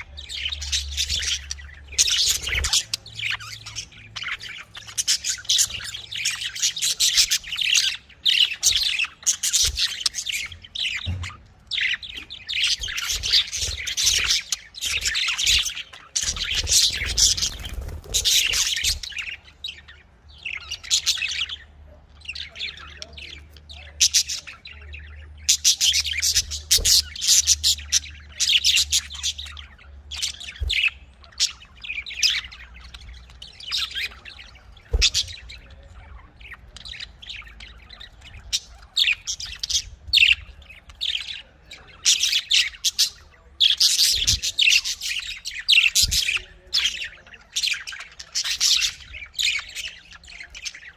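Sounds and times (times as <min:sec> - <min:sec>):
budgerigars chirping and squawking: 0:00.0 - 0:50.9.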